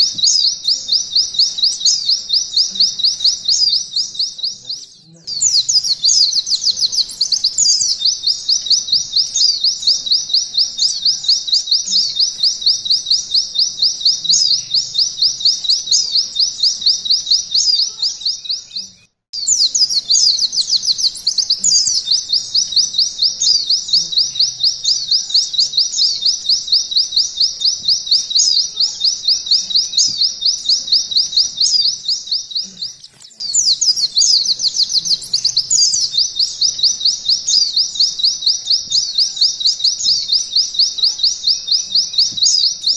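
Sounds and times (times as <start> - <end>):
bird singing fast trill: 0.0 - 42.9.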